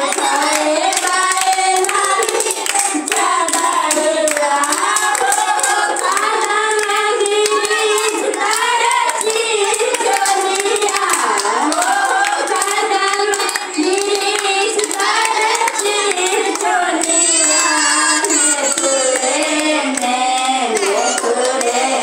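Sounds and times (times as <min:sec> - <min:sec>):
hands clapping: 0:00.0 - 0:22.0
woman singing into a microphone: 0:00.0 - 0:22.0
women and children singing along: 0:00.0 - 0:22.0.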